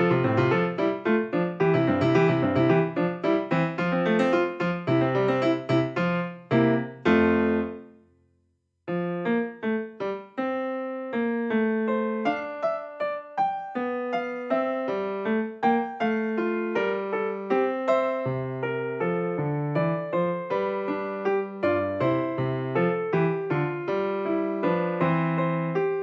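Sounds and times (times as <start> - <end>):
piano music: 0.0 - 8.0, 8.9 - 26.0.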